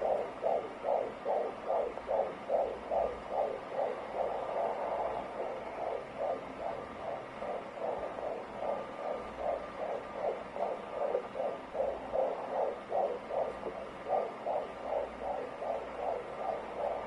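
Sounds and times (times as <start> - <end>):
faint steady hum: 0.0 - 17.0
fetal heartbeat on doppler monitor: 0.0 - 17.0.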